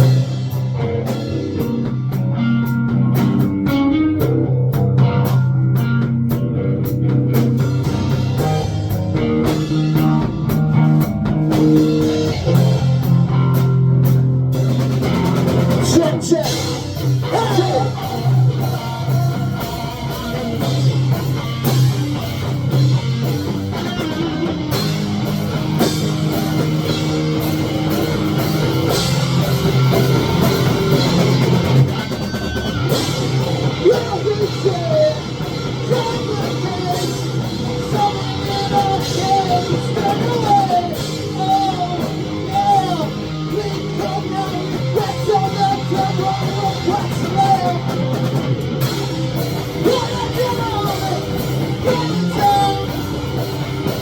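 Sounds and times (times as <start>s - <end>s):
bending lead guitar melody: 0.0s - 54.0s
rock band playing: 0.0s - 54.0s.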